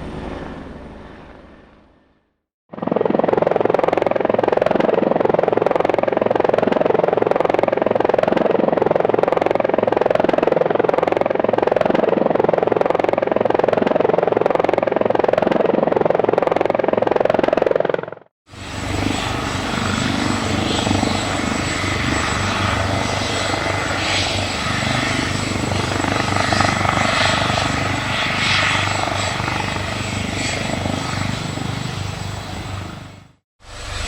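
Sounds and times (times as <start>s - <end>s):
helicopter rotor blades chopping: 0.0s - 34.0s.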